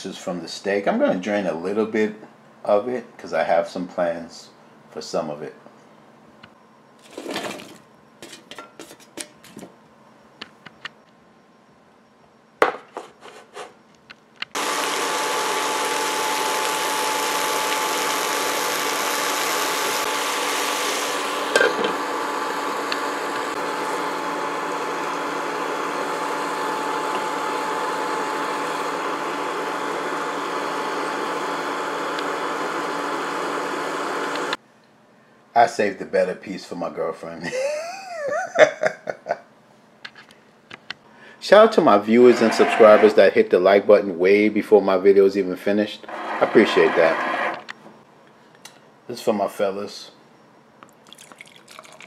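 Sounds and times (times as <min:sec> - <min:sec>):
induction cooktop fan noise: 0:00.0 - 0:52.0.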